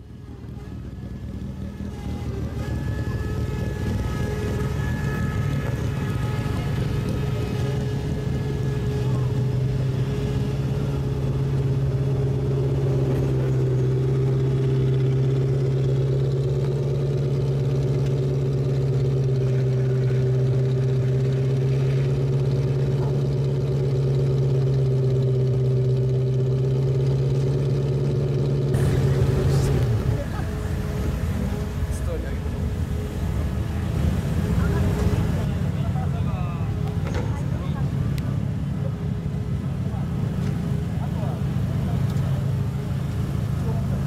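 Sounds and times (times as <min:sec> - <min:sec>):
car engine running steadily: 0:00.0 - 0:44.0.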